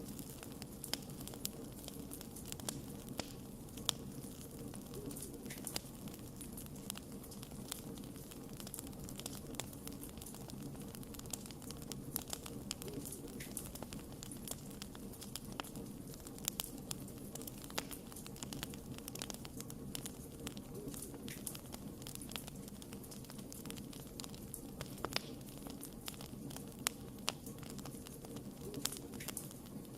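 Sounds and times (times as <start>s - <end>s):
campfire crackling: 0.0s - 29.9s.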